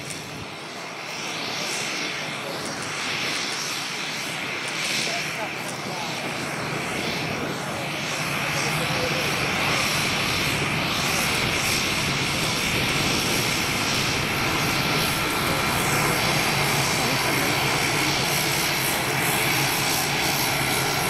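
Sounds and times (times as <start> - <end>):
turboprop engine droning: 0.0 - 21.0.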